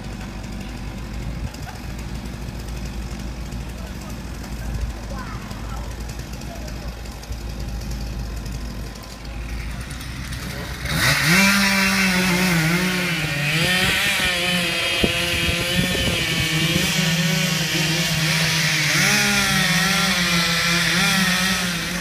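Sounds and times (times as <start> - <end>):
chainsaw cutting through wood: 0.0 - 22.0.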